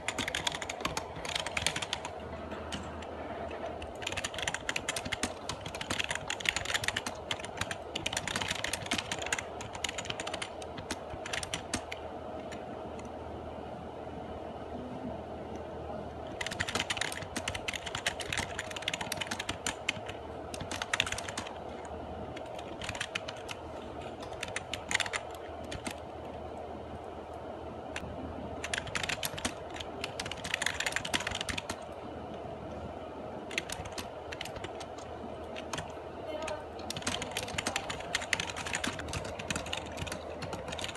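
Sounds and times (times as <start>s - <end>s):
laptop keyboard typing: 0.0s - 12.6s, 16.3s - 26.4s, 28.6s - 31.9s, 33.5s - 40.9s.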